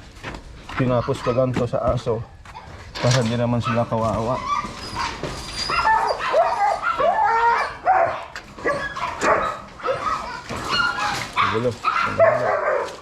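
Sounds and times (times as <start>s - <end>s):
dogs whining and yipping: 0.8s - 13.0s.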